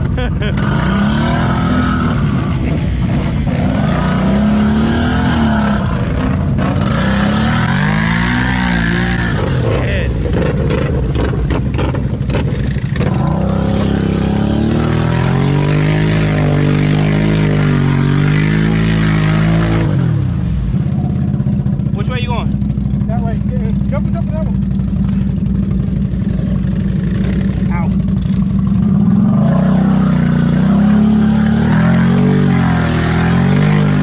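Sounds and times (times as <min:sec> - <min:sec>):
quad bike engine revving: 0:00.0 - 0:34.0.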